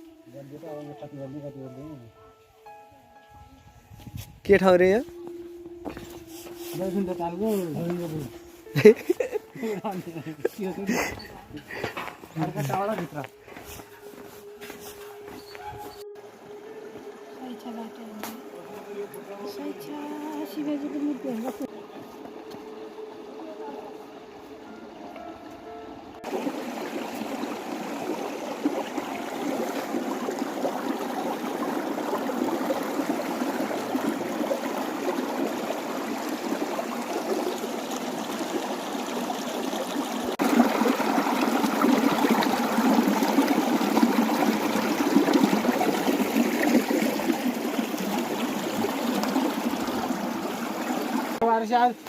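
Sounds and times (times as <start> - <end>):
rushing water: 4.6 - 52.0.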